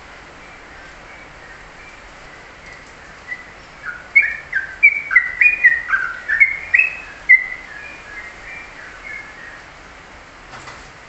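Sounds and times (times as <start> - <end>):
bird singing whistled notes: 0.4 - 9.7.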